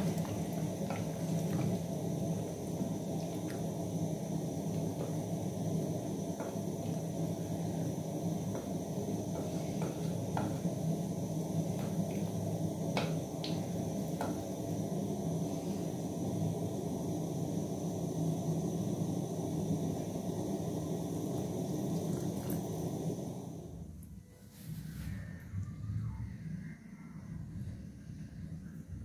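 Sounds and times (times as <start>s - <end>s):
stew simmering: 0.0s - 23.8s
gas burner rumble: 0.0s - 24.0s.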